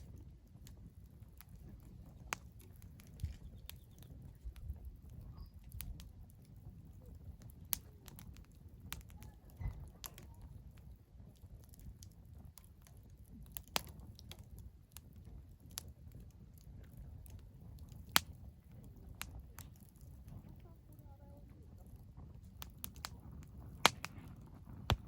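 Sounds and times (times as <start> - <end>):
low fire rumble: 0.0 - 25.0
wood fire crackling: 0.0 - 25.0.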